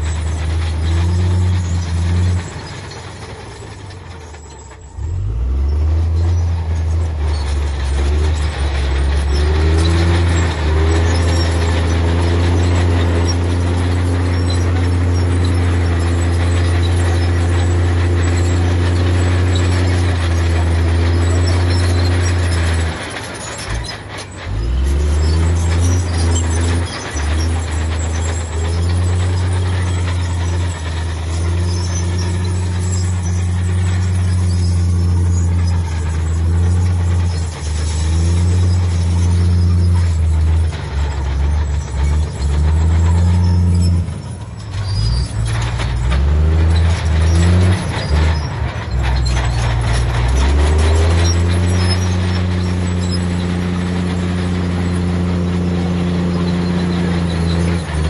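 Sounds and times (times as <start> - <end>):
heavy diesel machinery engine: 0.0 - 58.0
metal clanking: 0.0 - 58.0.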